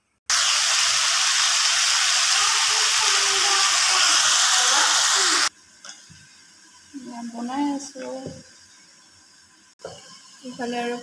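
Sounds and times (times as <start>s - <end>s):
frying in hot oil: 0.3s - 11.0s.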